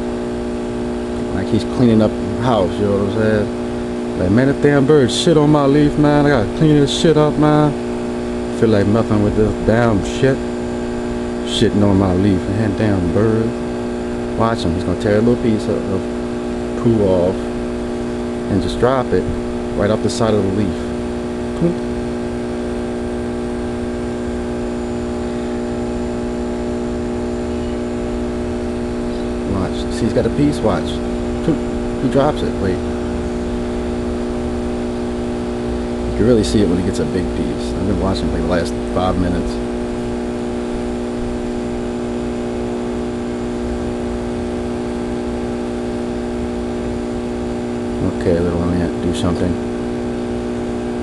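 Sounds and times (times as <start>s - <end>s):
machine humming: 0.0s - 51.0s.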